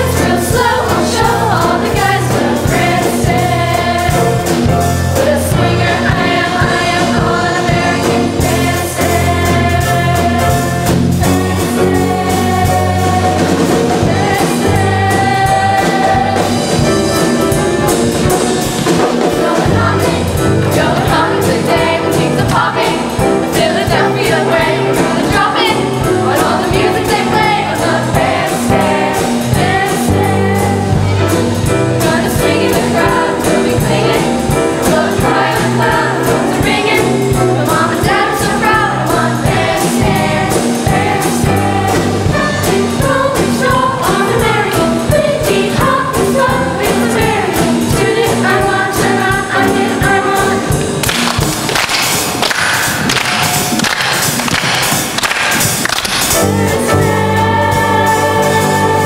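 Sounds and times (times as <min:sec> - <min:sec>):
children's choir singing: 0:00.0 - 0:59.0
instrumental accompaniment with beat: 0:00.0 - 0:59.0.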